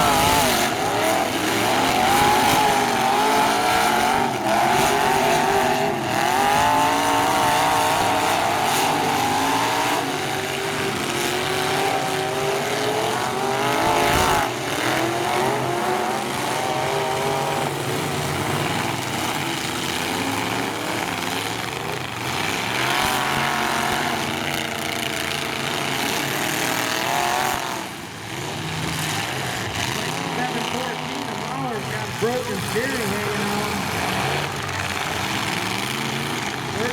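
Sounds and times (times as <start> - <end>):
truck engines revving: 0.0 - 36.9.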